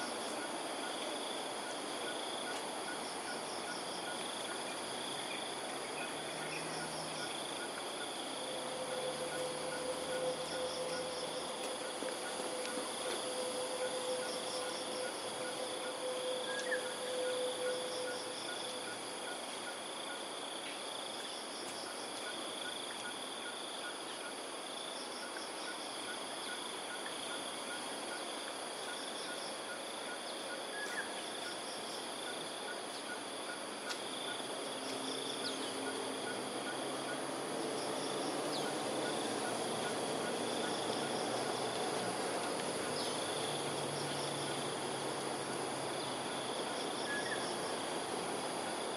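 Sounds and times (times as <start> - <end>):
insect chorus: 0.0 - 48.9.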